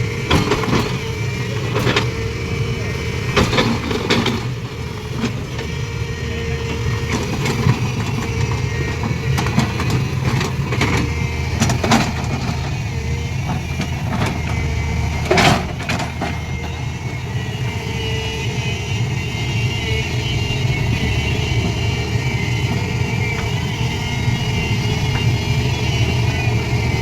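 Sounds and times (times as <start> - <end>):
engine running at low pitch: 0.0 - 27.0.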